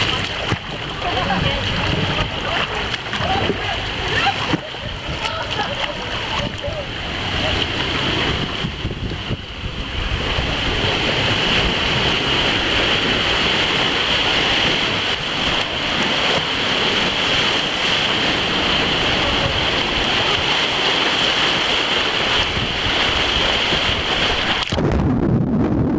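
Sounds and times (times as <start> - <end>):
churning whitewater rushing: 0.0 - 25.0.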